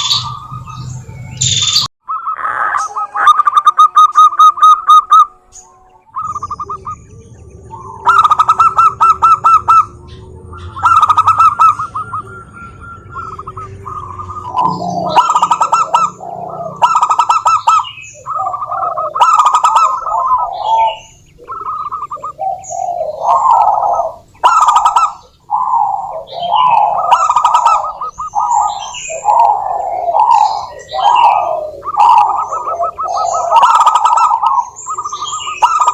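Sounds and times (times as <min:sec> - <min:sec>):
doves cooing: 0:02.1 - 0:35.9.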